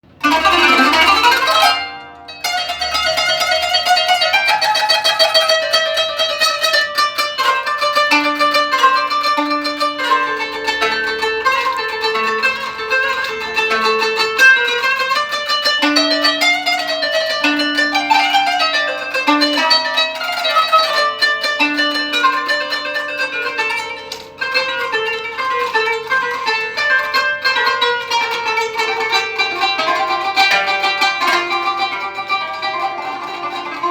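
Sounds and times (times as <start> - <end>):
plucked string instrument improvisation: 0.0 - 33.9.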